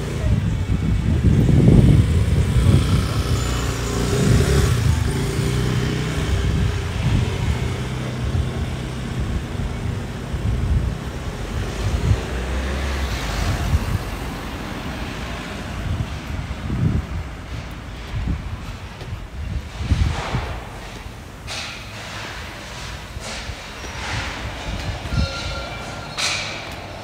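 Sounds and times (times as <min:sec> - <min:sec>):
car and bus engines passing: 0:00.0 - 0:27.0.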